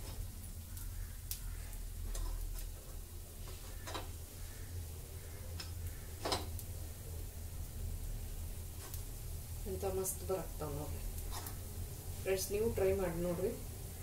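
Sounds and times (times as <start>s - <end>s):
faint sizzling: 0.0s - 14.0s.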